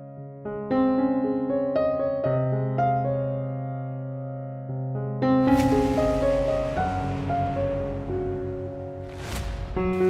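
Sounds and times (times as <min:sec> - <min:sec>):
gentle keyboard music: 0:00.0 - 0:09.2.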